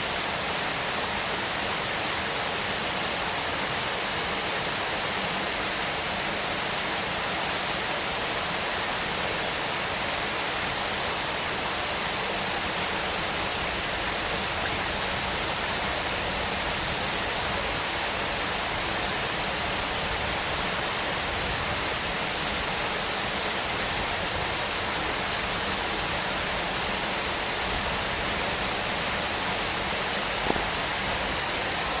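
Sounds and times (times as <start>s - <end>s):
waterfall splashing: 0.0s - 32.0s.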